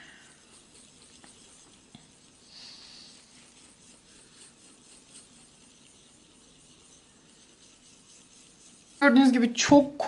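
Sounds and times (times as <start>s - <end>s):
paintbrush scraping on paper: 0.0s - 10.0s.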